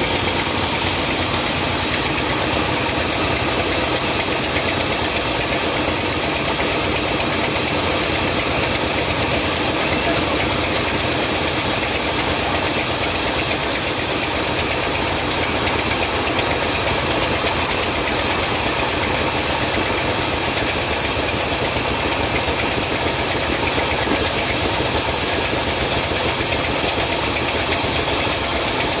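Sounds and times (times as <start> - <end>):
sawmill saw cutting log: 0.0 - 29.0.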